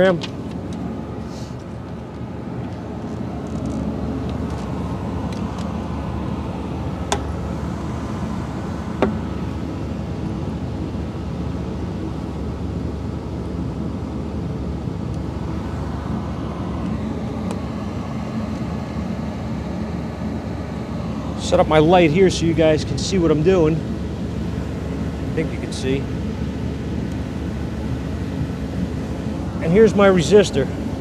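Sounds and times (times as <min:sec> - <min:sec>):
vehicle hum inside cabin: 0:00.0 - 0:31.0.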